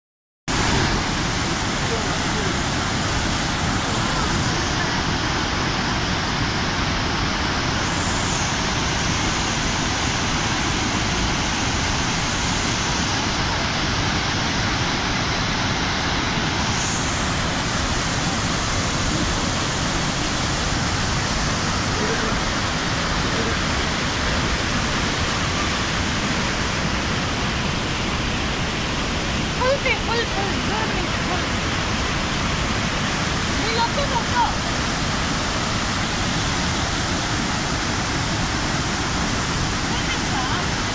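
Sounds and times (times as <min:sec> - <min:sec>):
waterfall rushing over rocks: 0:00.5 - 0:40.9.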